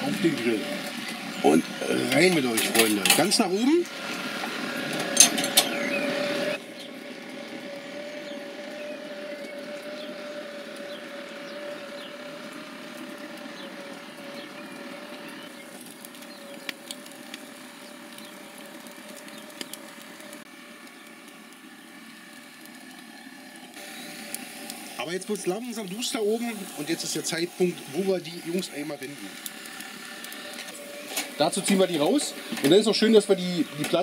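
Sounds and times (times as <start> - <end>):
gas burner hiss and hum: 0.0 - 34.0
steaks searing pops: 0.0 - 34.0.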